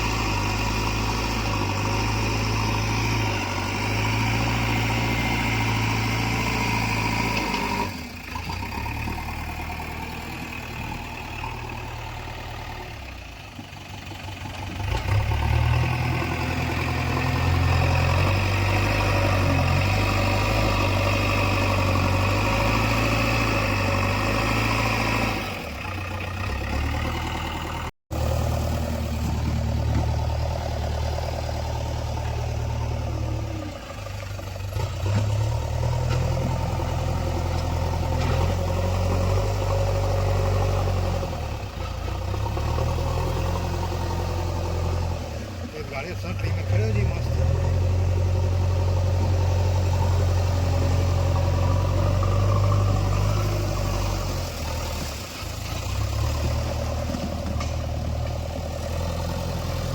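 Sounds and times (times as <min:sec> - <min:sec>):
diesel engine under changing load: 0:00.0 - 0:59.9.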